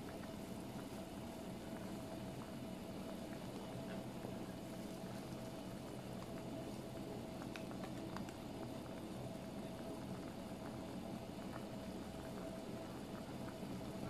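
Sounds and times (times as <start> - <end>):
soup bubbling in a pot: 0.0 - 14.0
steady hum: 0.0 - 14.0.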